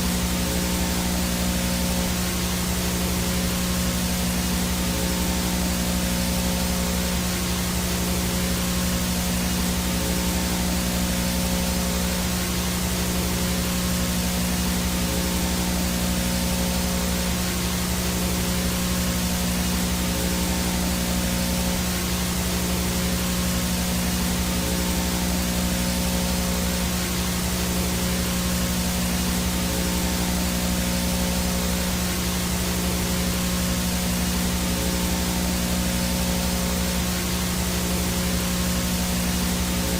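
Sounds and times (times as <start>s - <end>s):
static hiss: 0.0s - 39.9s
thin high whine: 0.0s - 39.9s.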